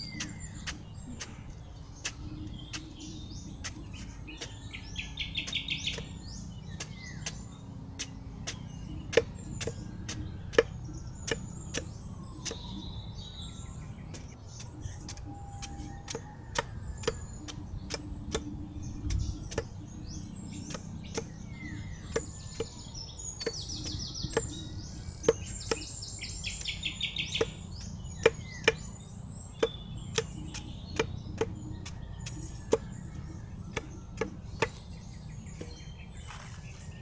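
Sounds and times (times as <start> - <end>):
birds chirping: 0.0 - 37.0
machete chopping banana corm: 2.0 - 12.8, 14.1 - 19.8, 20.6 - 22.8, 23.4 - 34.8.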